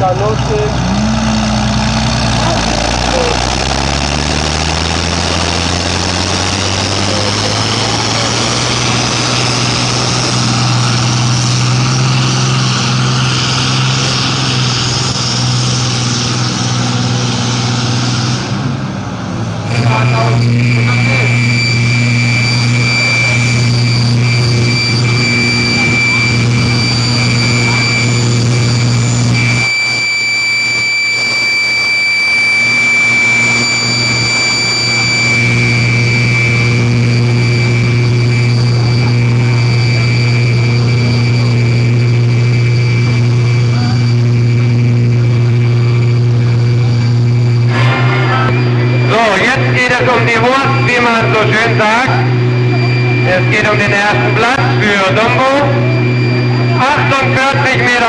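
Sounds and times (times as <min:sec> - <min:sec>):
high whine: 0:00.0 - 0:58.0
tractor engine at high revs: 0:00.0 - 0:58.0.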